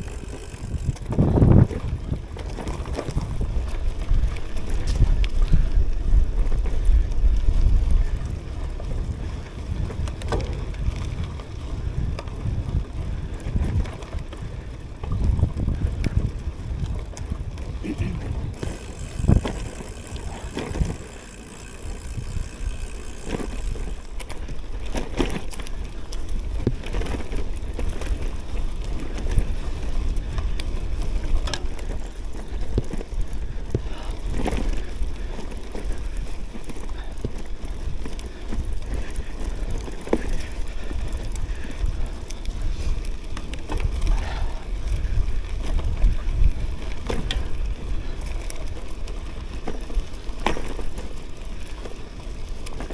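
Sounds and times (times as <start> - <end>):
bike knocking and rattling: 0.0 - 52.9
bike tyre rumble: 0.0 - 52.9
wind buffeting microphone: 0.0 - 52.9.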